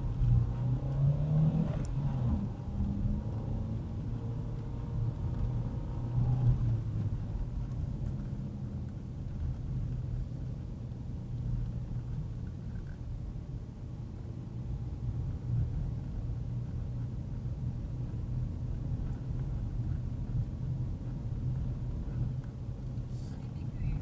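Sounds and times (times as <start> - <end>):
car rumbling on the road: 0.0 - 24.0
car engine running: 1.8 - 24.0.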